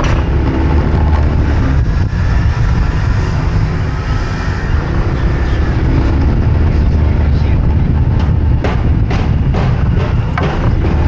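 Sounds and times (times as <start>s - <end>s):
road and engine noise: 0.0s - 11.0s
wind rumble on microphone: 0.0s - 11.0s.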